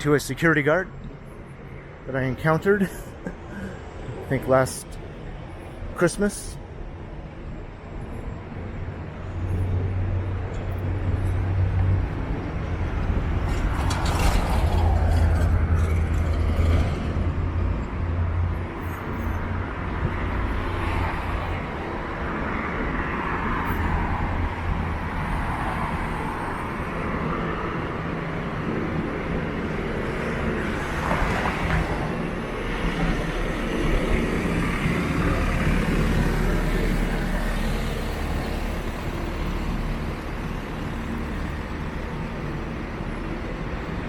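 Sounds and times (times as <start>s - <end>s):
road noise: 0.0s - 44.0s.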